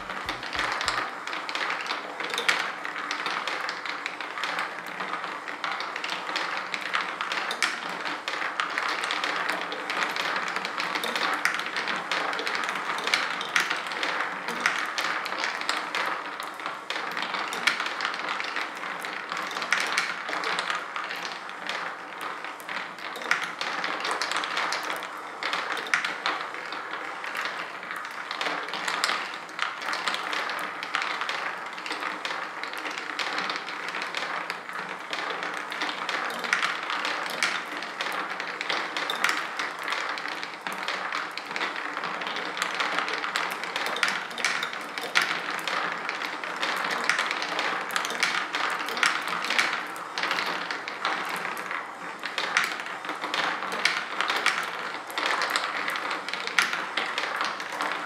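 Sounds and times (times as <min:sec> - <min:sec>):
marbles rolling and clacking: 0:00.0 - 0:58.0.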